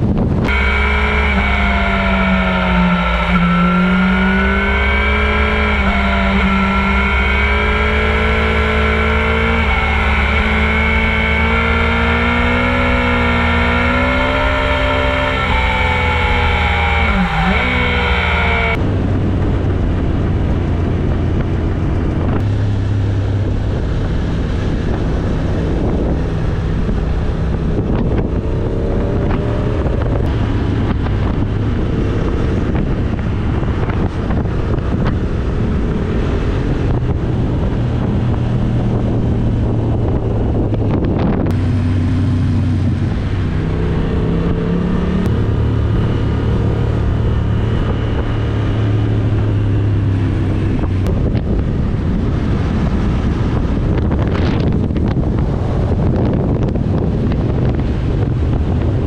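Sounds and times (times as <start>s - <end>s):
motorcycle engine drone: 0.0s - 59.0s
wind noise on microphone: 0.0s - 59.0s.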